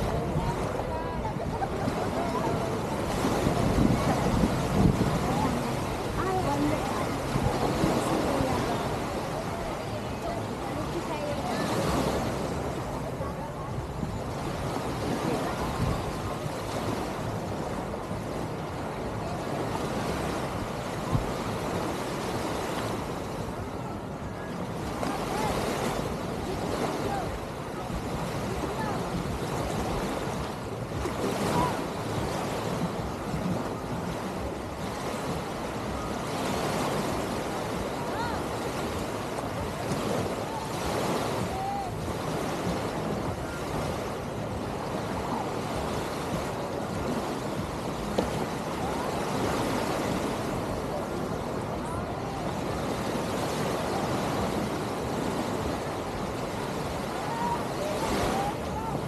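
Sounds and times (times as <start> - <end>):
faint distant voices: 0.0 - 59.0
waves washing onto beach: 0.0 - 59.0
wind: 0.0 - 59.0.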